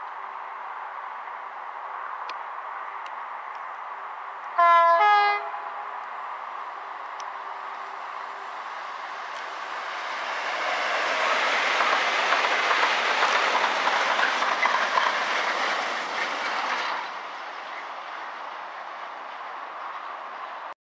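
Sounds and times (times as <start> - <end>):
diesel train passing at speed: 0.2 - 20.8.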